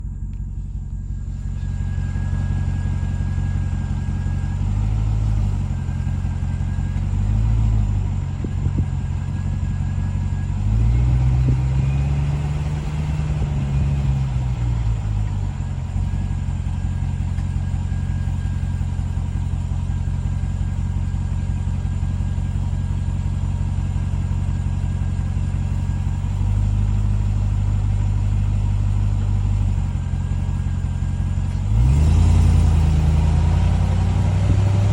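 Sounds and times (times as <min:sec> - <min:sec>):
low humming from pickup truck: 0:00.0 - 0:34.9.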